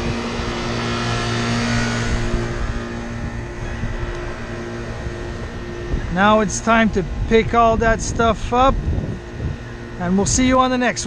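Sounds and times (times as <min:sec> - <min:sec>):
condenser fans rushing: 0:00.0 - 0:11.0
steady electric hum: 0:00.0 - 0:11.0.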